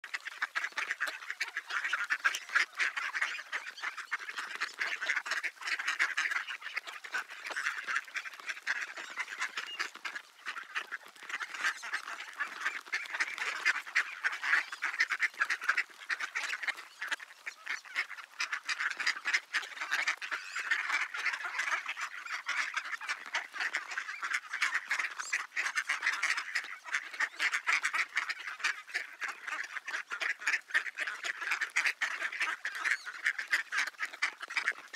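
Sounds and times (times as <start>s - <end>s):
ducks calling: 0.0s - 34.9s
patter of small ticks: 0.1s - 34.9s.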